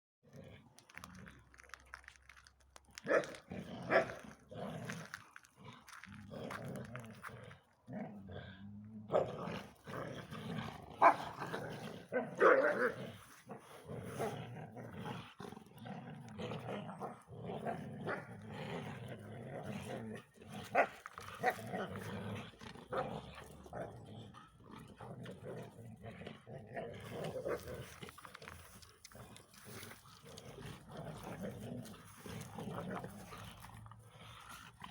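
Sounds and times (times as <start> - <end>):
dogs growling: 0.2 - 34.9.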